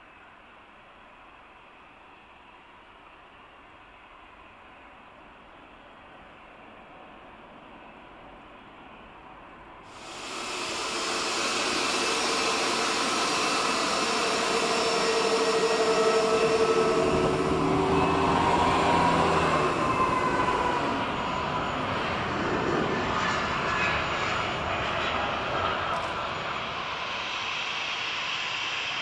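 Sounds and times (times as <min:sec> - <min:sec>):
jet engines rumbling and whining: 0:01.3 - 0:29.0.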